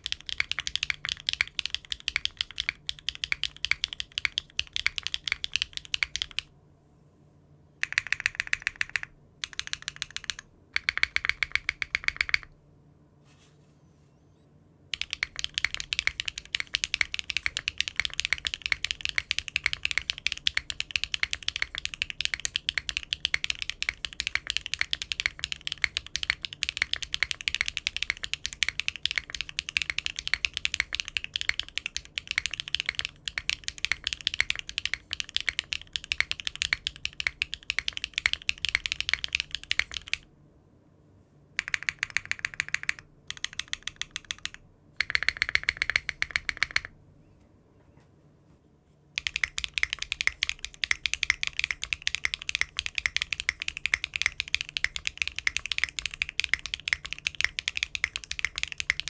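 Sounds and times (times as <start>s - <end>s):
mechanical keyboard typing: 0.0s - 6.5s, 7.8s - 12.6s, 14.9s - 40.2s, 41.6s - 46.9s, 49.2s - 59.0s.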